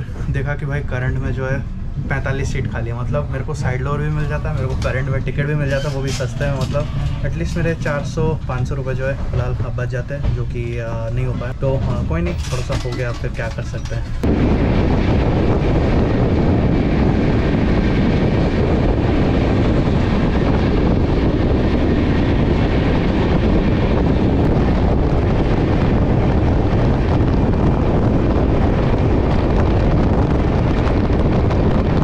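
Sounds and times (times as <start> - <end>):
rush of wind: 0.0 - 32.0
train wheels rumbling on track: 0.0 - 32.0
wind on microphone: 0.0 - 32.0.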